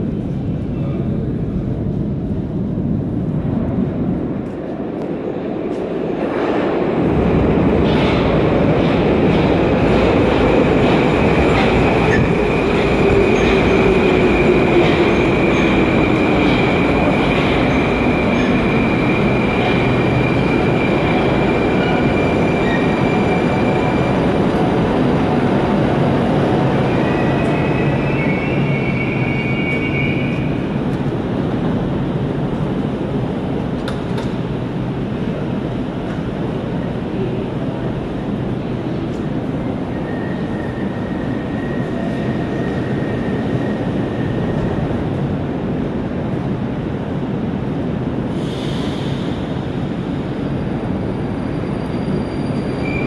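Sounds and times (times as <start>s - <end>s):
metro train braking to a stop: 5.3s - 47.1s, 47.7s - 53.0s.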